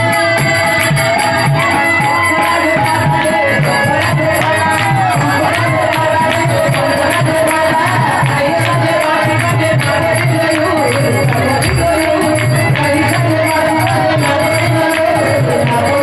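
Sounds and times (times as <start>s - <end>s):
hand drum beating: 0.0s - 16.0s
harmonium: 0.0s - 16.0s
person singing: 0.0s - 16.0s.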